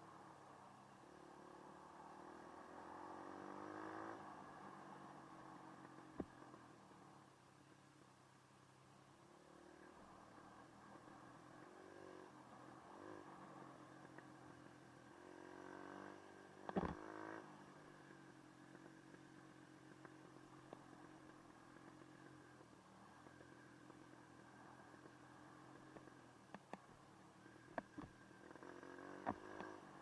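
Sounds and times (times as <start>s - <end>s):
faint dirt bike engine running: 0.0s - 30.0s.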